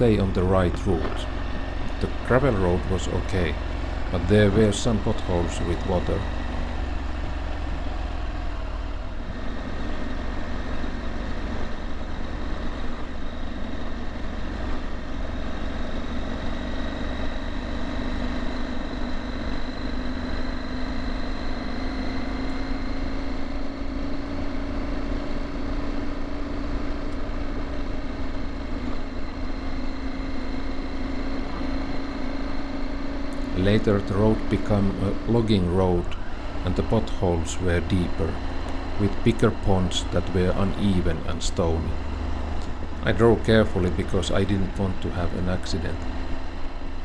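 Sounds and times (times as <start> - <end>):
wind and road rumble: 0.0 - 20.6, 21.4 - 47.0
motorcycle engine cruising: 0.0 - 47.0.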